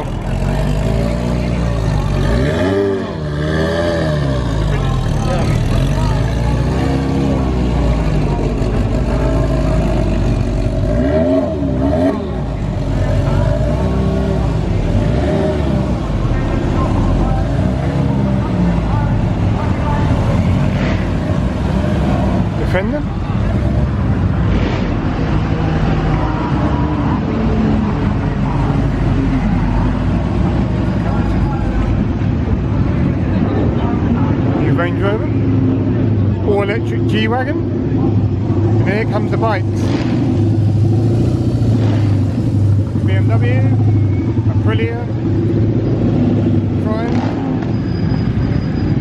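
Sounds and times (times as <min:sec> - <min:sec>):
car engines running: 0:00.0 - 0:49.0.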